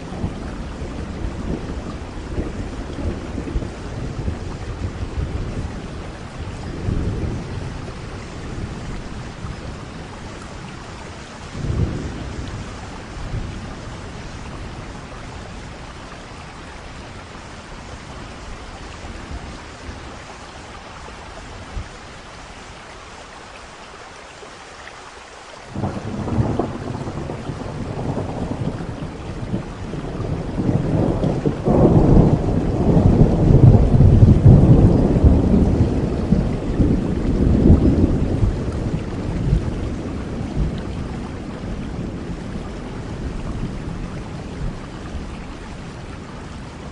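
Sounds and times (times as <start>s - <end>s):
rolling thunder: 0.0s - 20.4s, 25.7s - 46.9s
steady rain: 0.0s - 46.9s.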